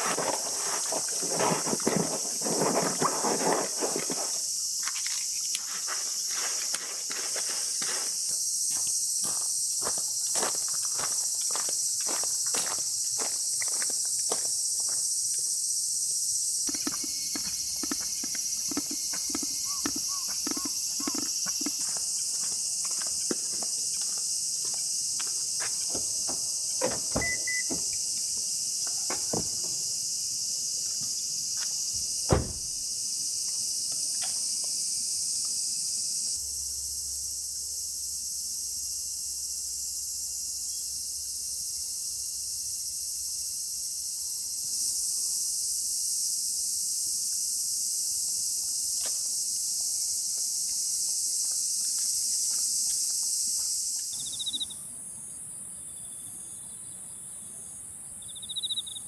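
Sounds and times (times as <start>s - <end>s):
chorus of insects: 0.0s - 59.0s.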